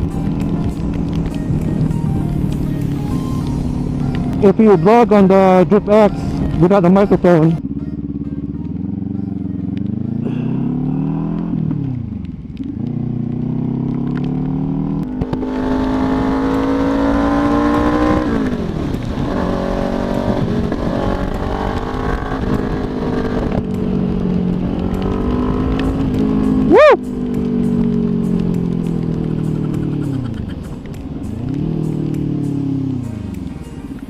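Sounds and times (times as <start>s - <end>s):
motorcycle engine accelerating: 0.0s - 33.6s.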